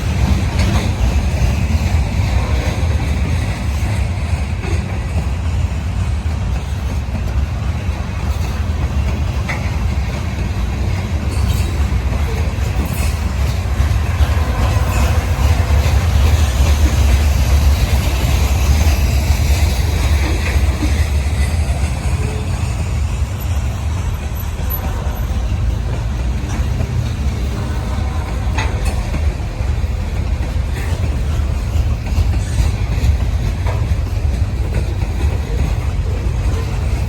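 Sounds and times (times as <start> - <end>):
freight train rumbling past: 0.0 - 37.0.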